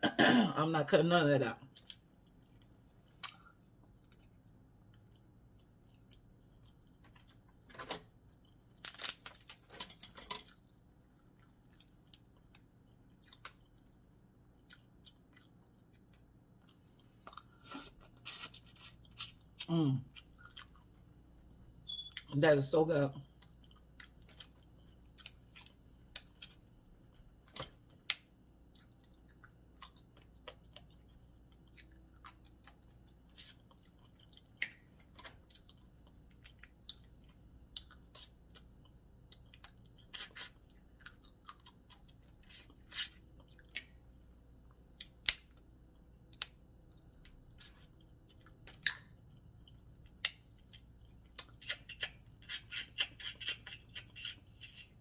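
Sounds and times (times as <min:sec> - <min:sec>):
quiet chewing: 0:01.7 - 0:22.4, 0:23.2 - 0:55.0.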